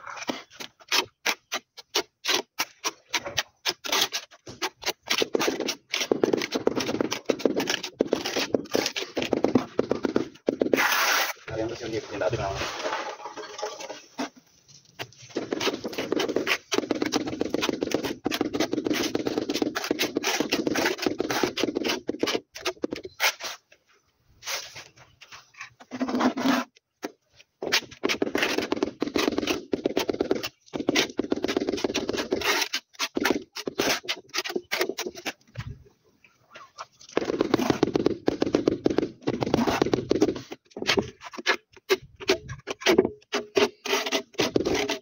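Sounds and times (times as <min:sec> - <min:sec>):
tiles scraping in adhesive: 0:00.0 - 0:23.7, 0:24.4 - 0:35.7, 0:38.9 - 0:45.0.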